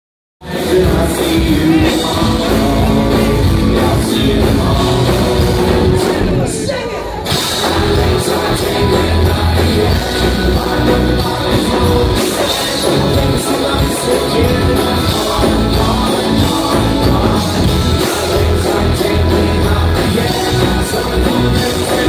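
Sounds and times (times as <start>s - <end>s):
drums: 0.4s - 22.0s
electric guitars: 0.4s - 22.0s
vocals: 0.4s - 22.0s.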